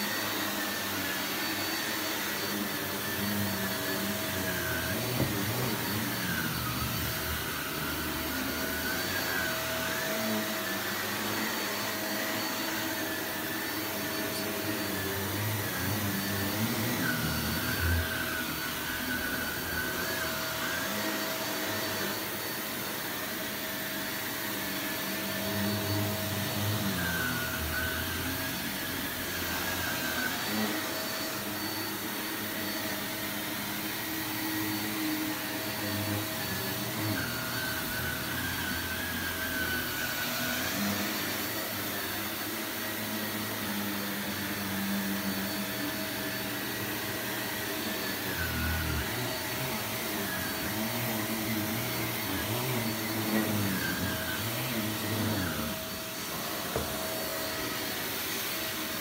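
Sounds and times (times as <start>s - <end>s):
high vacuum whine: 0.0s - 59.0s
vacuum cleaner running on rug: 0.0s - 59.0s.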